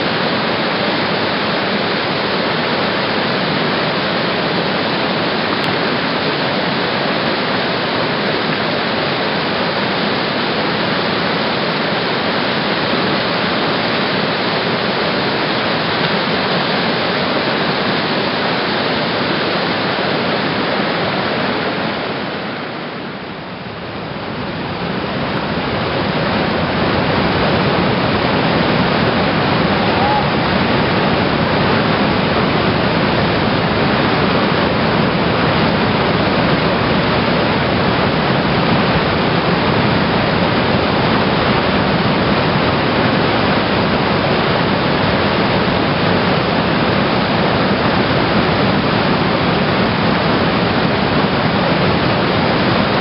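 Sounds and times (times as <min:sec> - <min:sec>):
rush of whitewater: 0:00.0 - 0:53.0.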